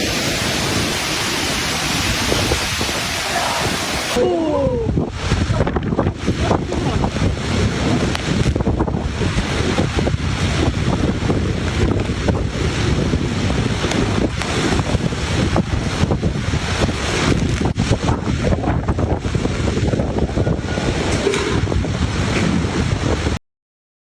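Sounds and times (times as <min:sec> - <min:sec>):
gale wind buffeting microphone: 0:00.0 - 0:23.4.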